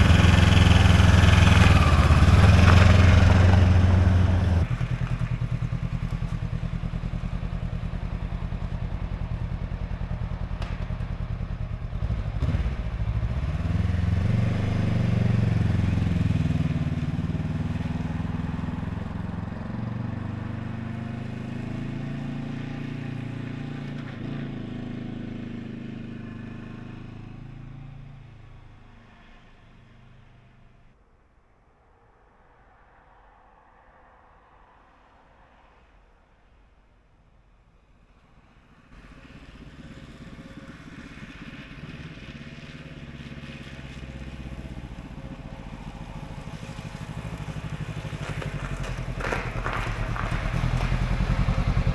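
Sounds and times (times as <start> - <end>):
motorcycle engine idling and pulling away: 0.0 - 31.0, 37.8 - 51.9.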